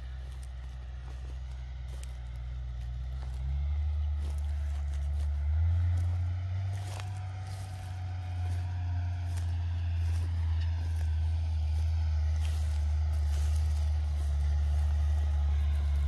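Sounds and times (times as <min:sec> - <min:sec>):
distant tractor rumble: 0:00.0 - 0:16.0.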